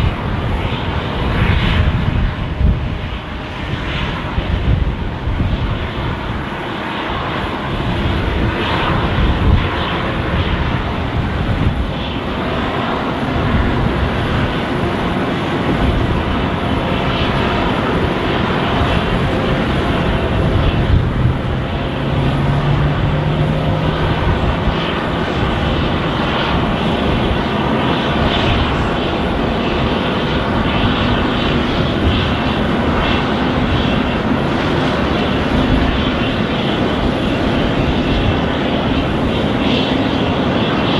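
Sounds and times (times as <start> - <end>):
faint jet whine: 0.0 - 40.9
jet engine roar: 0.0 - 40.9.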